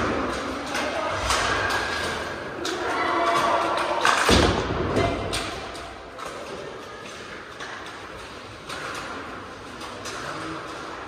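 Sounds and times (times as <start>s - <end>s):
hockey sticks and puck clattering: 0.0s - 11.0s.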